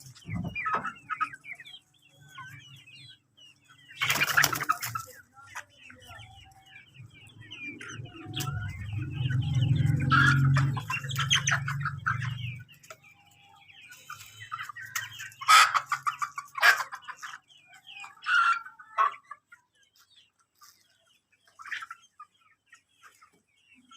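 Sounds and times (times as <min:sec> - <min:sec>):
chickens clucking: 0:00.0 - 0:23.9
chickens squawking: 0:00.0 - 0:23.9.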